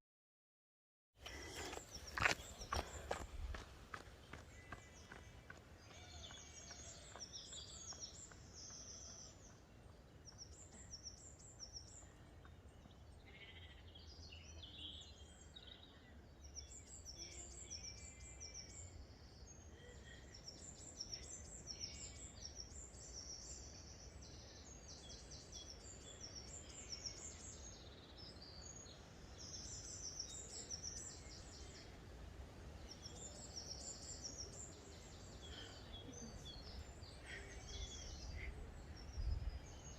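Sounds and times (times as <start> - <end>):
birds chirping: 1.2 - 39.9.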